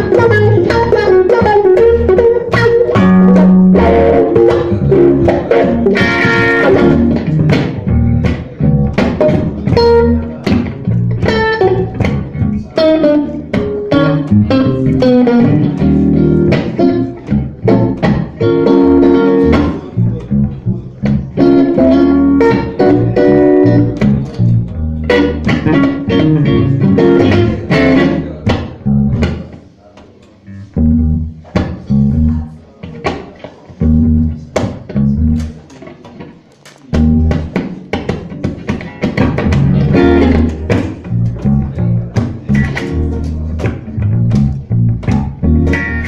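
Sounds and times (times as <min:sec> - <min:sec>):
bass guitar: 0:00.0 - 0:29.6, 0:30.4 - 0:46.0
blues band playing: 0:00.0 - 0:29.6, 0:30.4 - 0:35.7, 0:36.5 - 0:46.0
guitar lines: 0:00.0 - 0:46.0.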